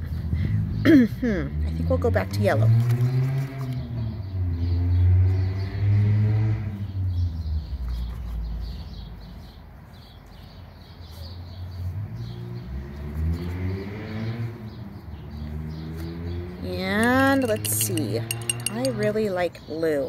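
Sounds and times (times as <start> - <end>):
small birds chirping: 2.4 - 20.0.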